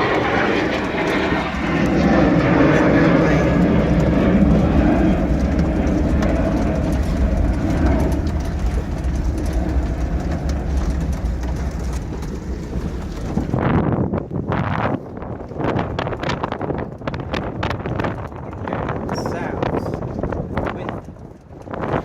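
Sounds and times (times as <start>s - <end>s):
airplane rumble overhead: 0.0s - 22.0s
wind gusts on microphone: 0.0s - 22.0s.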